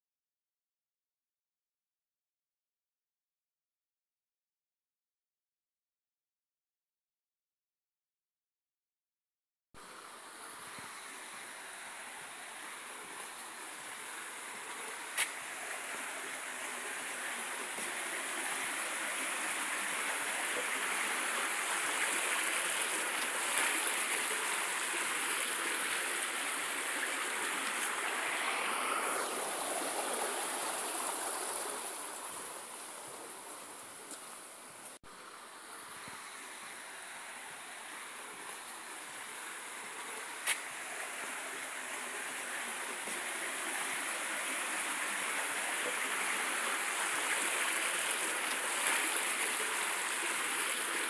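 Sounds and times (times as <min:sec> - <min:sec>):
stream water rushing: 0:09.8 - 0:51.0.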